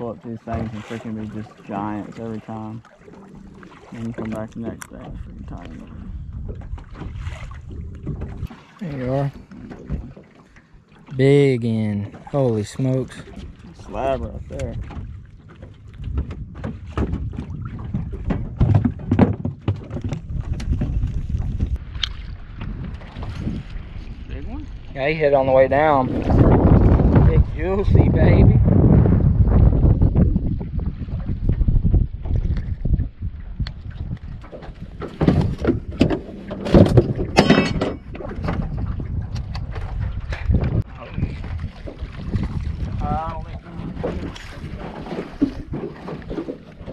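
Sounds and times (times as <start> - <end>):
wind buffeting microphone: 0.0 - 10.3, 11.3 - 46.9
waves lapping against boat hull: 0.0 - 46.9.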